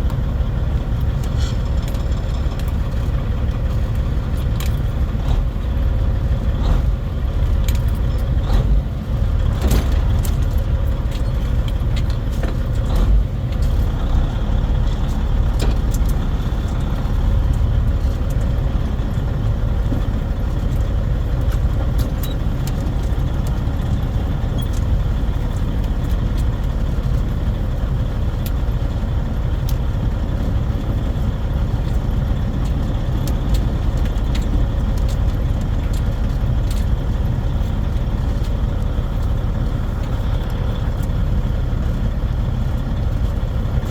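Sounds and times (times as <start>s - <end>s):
diesel truck engine rumbling: 0.0s - 43.9s.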